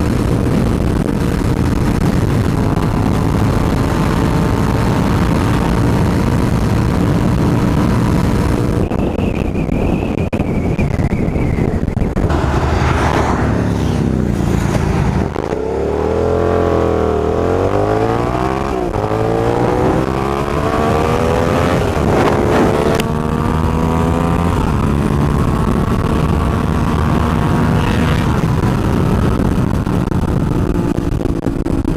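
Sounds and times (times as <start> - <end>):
motorcycle engine at speed: 0.0 - 31.9
wind rumble on microphone: 0.0 - 31.9.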